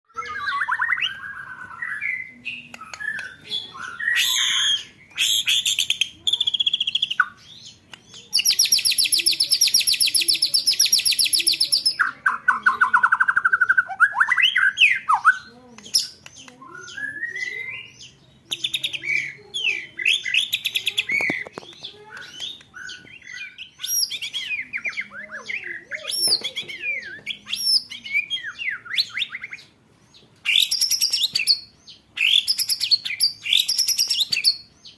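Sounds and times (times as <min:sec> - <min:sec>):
songbird whistles and chirps: 0:00.1 - 0:34.9.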